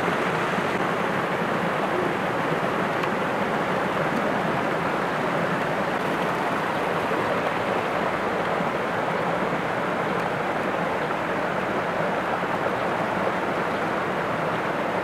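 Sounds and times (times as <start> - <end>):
small waterfall over rocks: 0.0 - 15.0.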